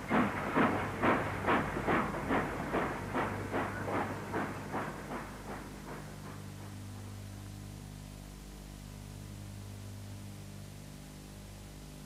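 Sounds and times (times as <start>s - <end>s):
steam locomotive exhaust beats: 0.0s - 10.2s
mains hum: 0.0s - 12.0s
tape hiss: 0.0s - 12.0s.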